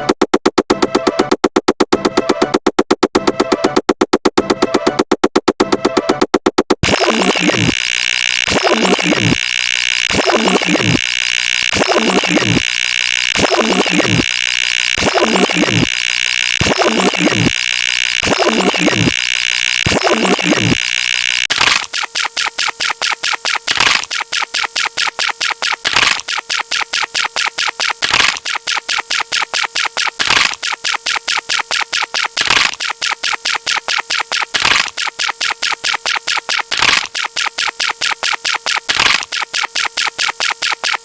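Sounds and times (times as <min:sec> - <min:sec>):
rapid synthetic clicks: 0:00.0 - 0:41.0.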